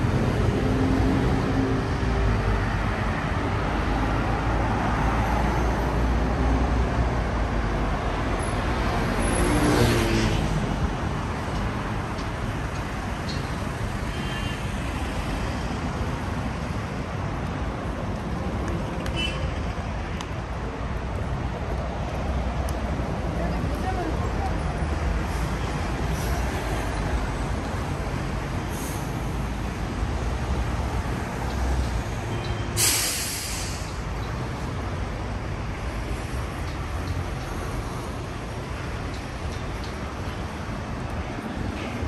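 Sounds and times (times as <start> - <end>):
street traffic rumble: 0.0 - 42.0.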